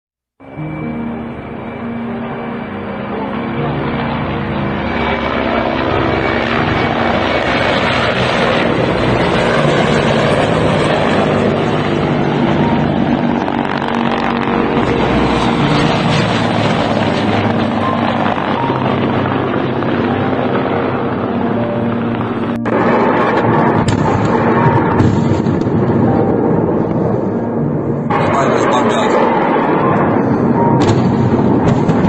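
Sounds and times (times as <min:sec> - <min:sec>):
helicopter flying low: 0:00.4 - 0:32.0.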